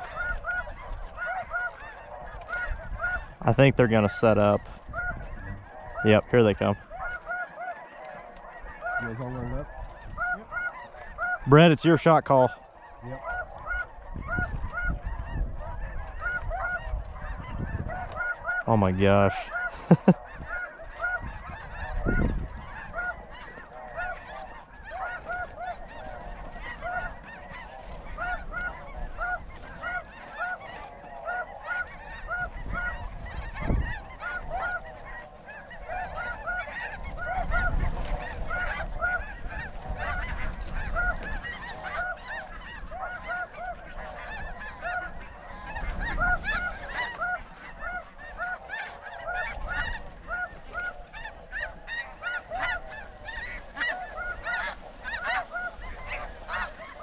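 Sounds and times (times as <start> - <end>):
wind rumble on microphone: 0.0 - 7.2, 12.9 - 18.6, 19.3 - 30.2, 30.8 - 57.0
geese honking: 0.0 - 57.0.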